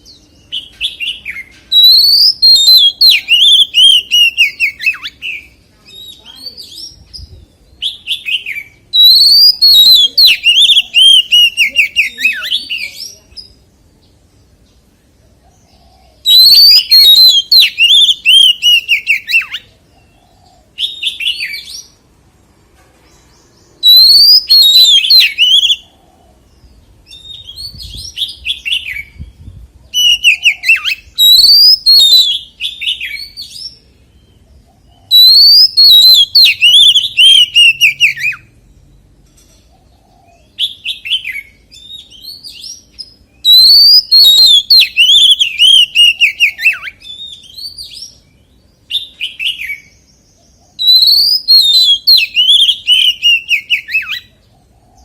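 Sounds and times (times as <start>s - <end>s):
bird singing: 0.0s - 22.2s, 22.9s - 55.0s.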